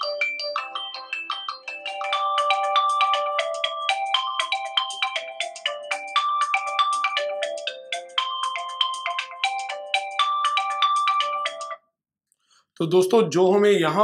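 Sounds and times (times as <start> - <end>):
phone ringtone melody: 0.0 - 11.9.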